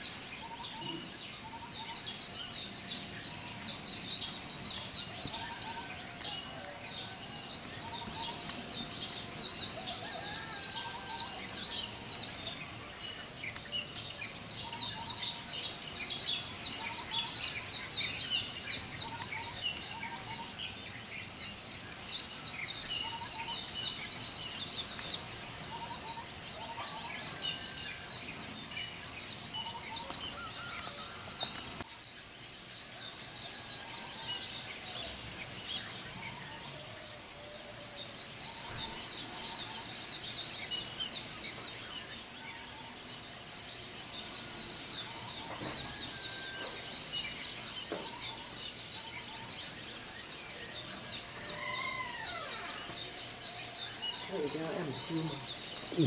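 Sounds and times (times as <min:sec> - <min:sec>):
birds fast high chirping: 0:00.0 - 0:56.0
lower whistled bird notes: 0:00.0 - 0:56.0.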